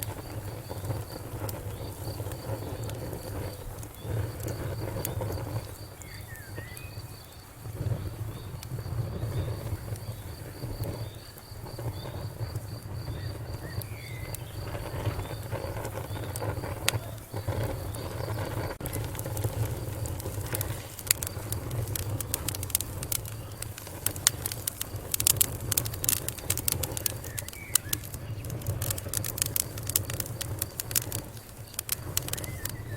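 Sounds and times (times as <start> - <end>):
fire crackles and pops: 0.0 - 32.9
insect chirping: 0.0 - 32.9
wood fire rumbling: 0.0 - 32.9.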